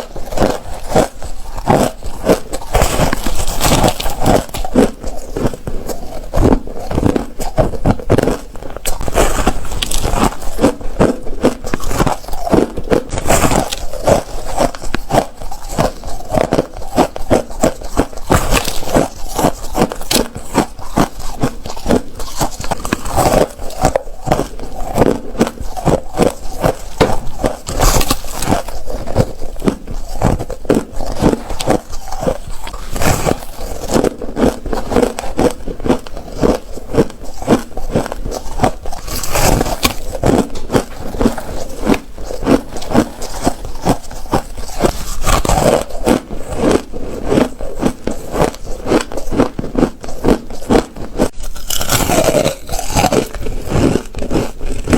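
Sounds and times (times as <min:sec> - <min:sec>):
ice crunching between teeth: 0:00.0 - 0:54.9.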